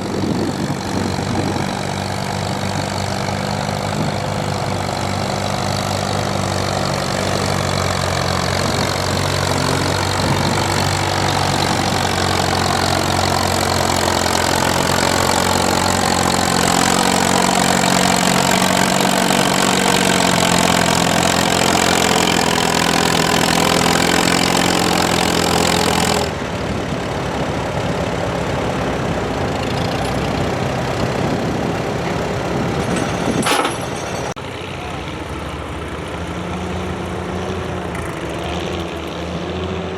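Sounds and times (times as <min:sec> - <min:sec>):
tractor engine running hard: 0:00.0 - 0:39.9.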